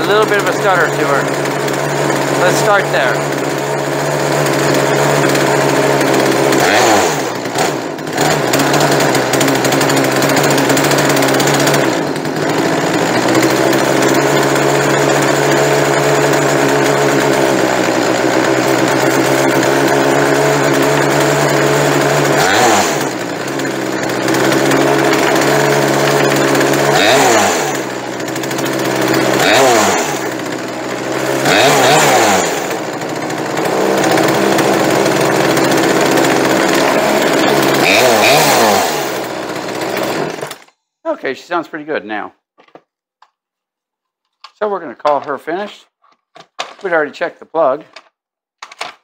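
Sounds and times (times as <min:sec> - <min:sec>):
chainsaw engine idling and revving: 0:00.0 - 0:40.8.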